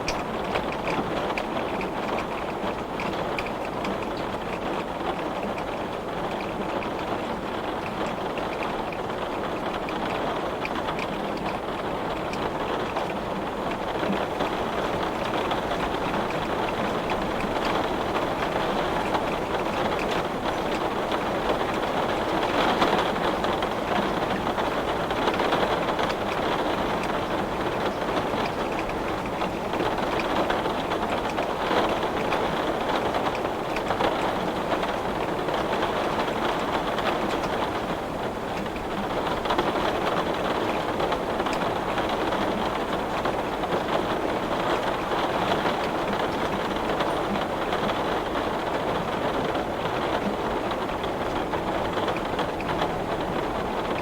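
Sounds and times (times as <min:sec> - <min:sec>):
heavy rain on glass: 0:00.0 - 0:54.0.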